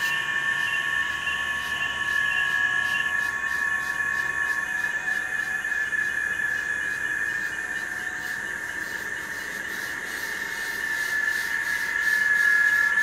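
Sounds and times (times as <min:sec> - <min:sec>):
insects calling: 0:00.0 - 0:13.0.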